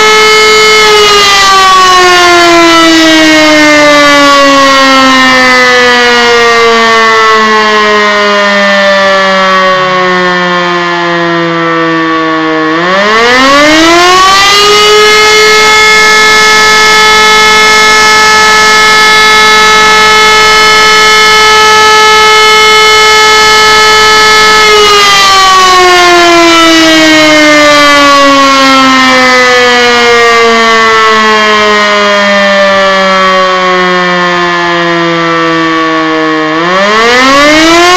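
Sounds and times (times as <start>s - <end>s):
motor siren wailing: 0.0s - 37.9s.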